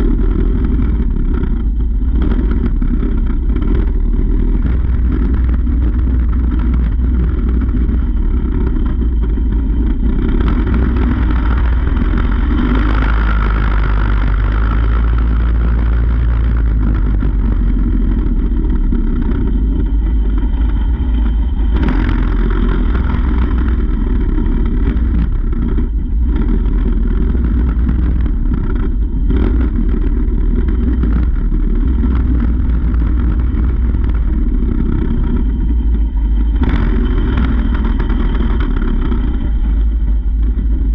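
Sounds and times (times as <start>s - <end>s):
small engine running: 0.0s - 40.9s
wind rumble on microphone: 0.0s - 40.9s.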